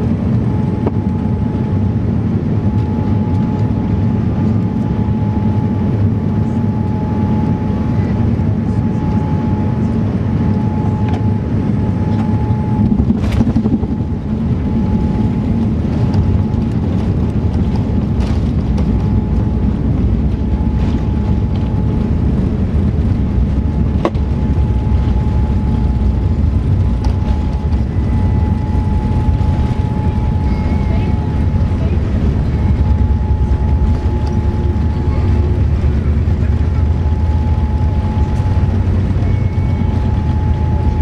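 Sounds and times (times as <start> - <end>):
aircraft cabin rumble: 0.0 - 41.0.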